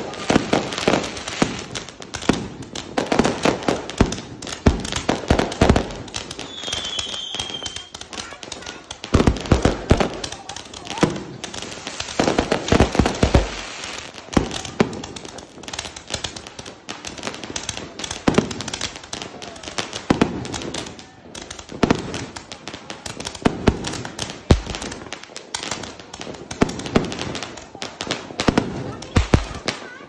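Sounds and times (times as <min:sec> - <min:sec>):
firework bursting bangs: 0:00.0 - 0:30.0.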